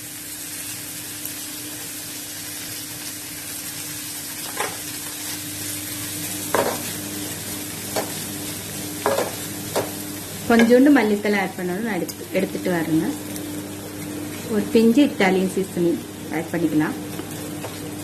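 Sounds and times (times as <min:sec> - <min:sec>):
filling sizzling in a pan: 0:00.0 - 0:18.0.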